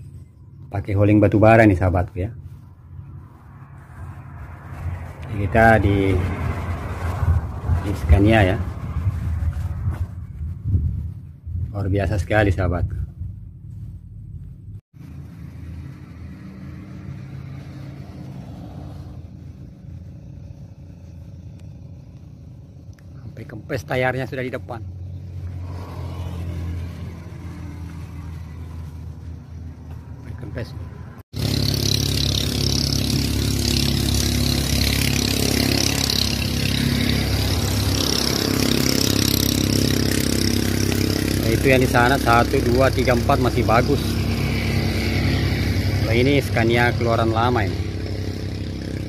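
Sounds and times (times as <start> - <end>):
engine running: 1.4 - 11.4, 13.2 - 23.6, 24.6 - 49.0.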